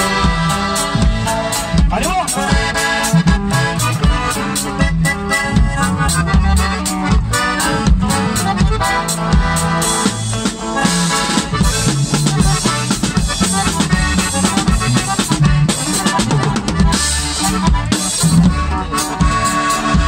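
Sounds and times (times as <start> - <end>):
button accordion: 0.0 - 20.0
drum kit beating: 0.0 - 20.0.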